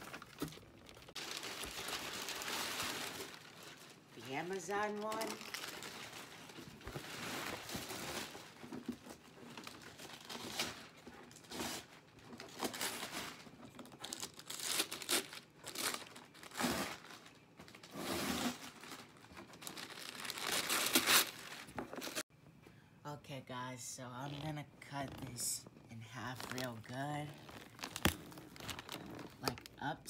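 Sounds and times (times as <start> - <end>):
packaging crinkling and tearing: 0.0 - 4.2, 4.8 - 22.2, 26.2 - 29.9.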